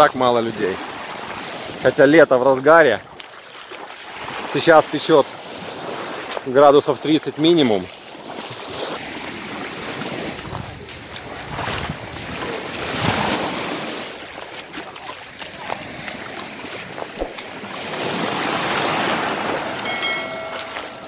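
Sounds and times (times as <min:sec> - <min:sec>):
small waves lapping on sand: 0:00.0 - 0:21.0.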